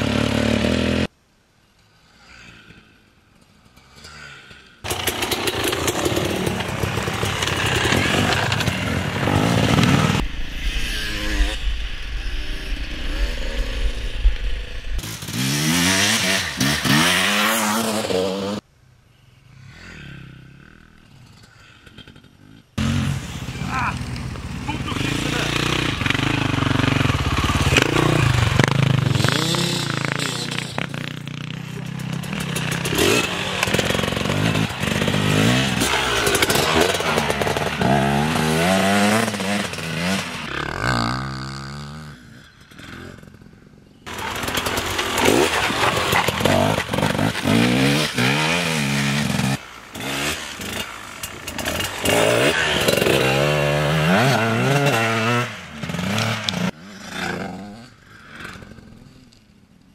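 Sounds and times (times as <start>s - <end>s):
dirt bike engines revving: 3.4s - 18.6s, 19.5s - 59.6s.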